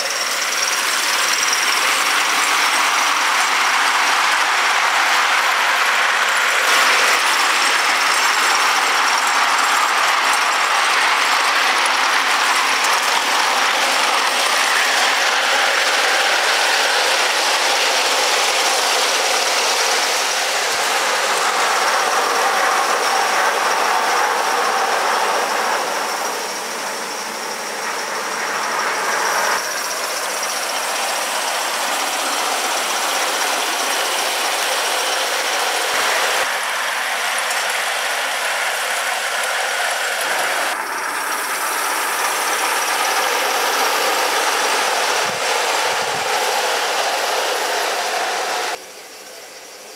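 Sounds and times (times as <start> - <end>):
model train rattling on track: 0.0 - 49.9.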